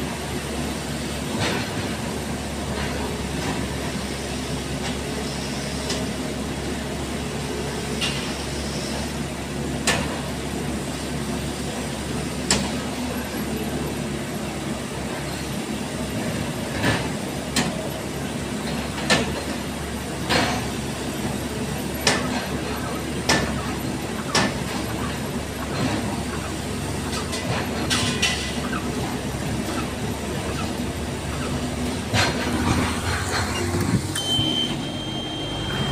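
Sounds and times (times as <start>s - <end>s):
heavy diesel machinery running: 0.0s - 35.9s.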